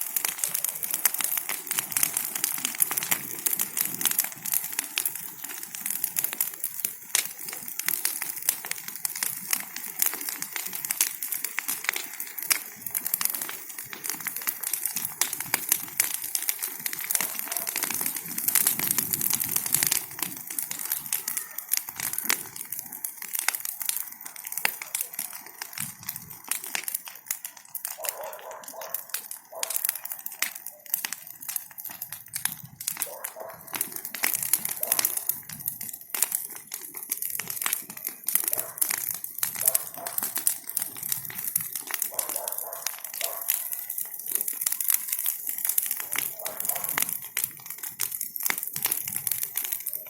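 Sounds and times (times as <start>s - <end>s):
bonfire crackling and popping: 0.0s - 50.0s.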